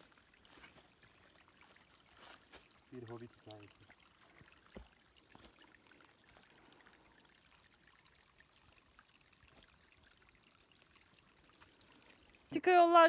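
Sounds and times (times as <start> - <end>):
faint brook trickling: 0.0 - 13.0.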